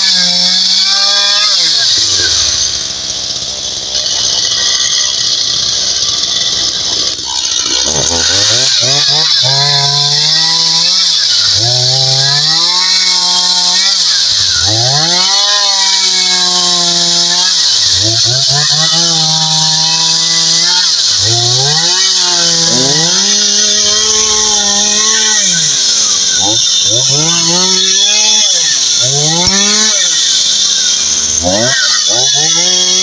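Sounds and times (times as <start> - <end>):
two-stroke chainsaw revving: 0.0 - 33.0.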